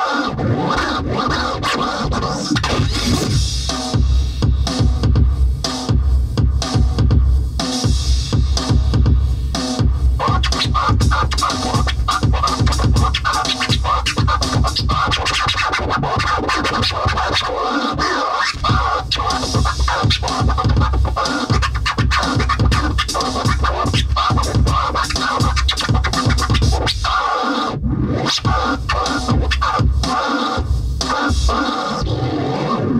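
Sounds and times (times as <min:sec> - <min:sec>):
electronic beat with heavy bass: 0:00.0 - 0:32.9
record scratch sounds: 0:00.0 - 0:32.9.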